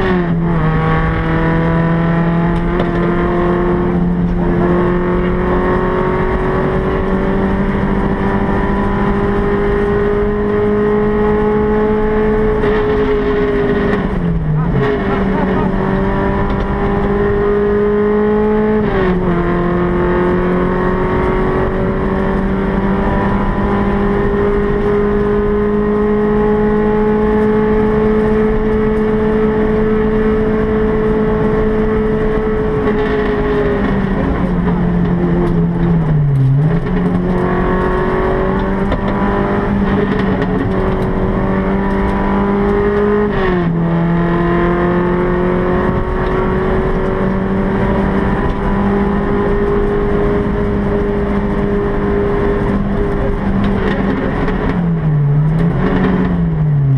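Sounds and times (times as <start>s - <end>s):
car engine at high revs: 0.0s - 56.9s.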